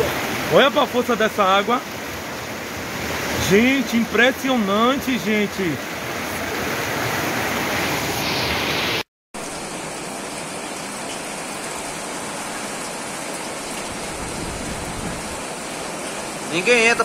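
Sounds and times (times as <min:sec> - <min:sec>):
floodwater rushing: 0:00.0 - 0:17.0
heavy rain hiss: 0:00.0 - 0:17.0.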